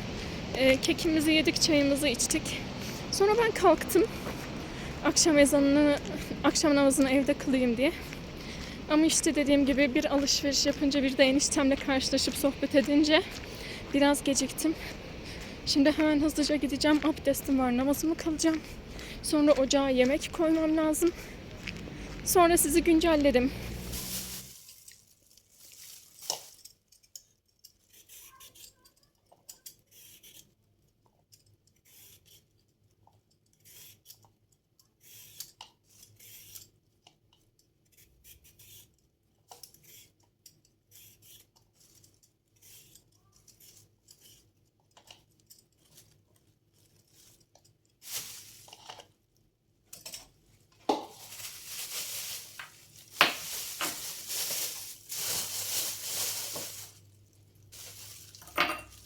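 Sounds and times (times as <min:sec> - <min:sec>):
rustling of things handled: 0:00.0 - 0:59.0.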